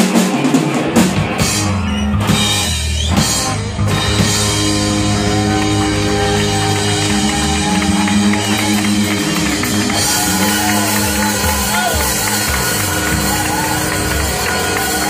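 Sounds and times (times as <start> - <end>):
live rock band playing loudly: 0.0 - 15.0.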